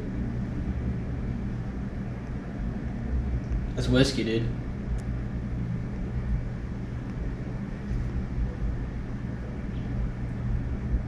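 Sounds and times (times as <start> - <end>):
low drone with rumble: 0.0 - 11.0.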